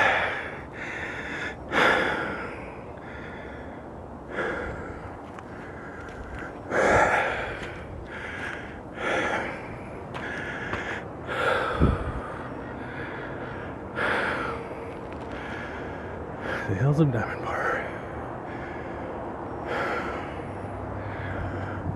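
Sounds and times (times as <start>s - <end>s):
person breathing heavily: 0.0s - 21.9s.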